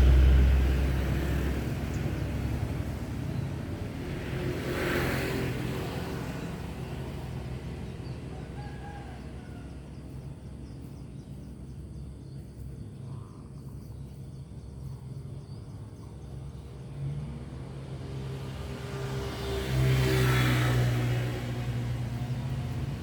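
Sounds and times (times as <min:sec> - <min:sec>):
engine humming: 0:00.0 - 0:09.1, 0:10.0 - 0:23.0
outdoor background noise: 0:00.0 - 0:23.0.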